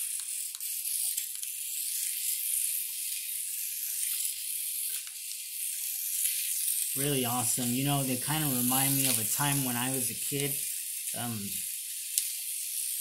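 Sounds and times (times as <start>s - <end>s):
toy car motor and gears whirring: 0.0s - 13.0s.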